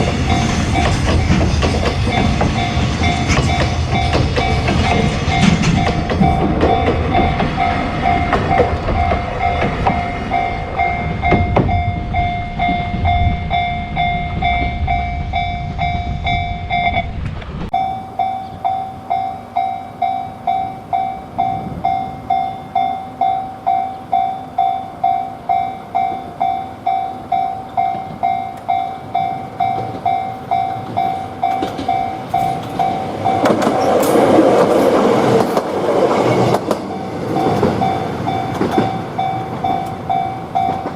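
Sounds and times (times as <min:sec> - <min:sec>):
level crossing warning bell: 0:00.0 - 0:17.1, 0:17.7 - 0:40.9
train rumbling past: 0:00.0 - 0:40.9.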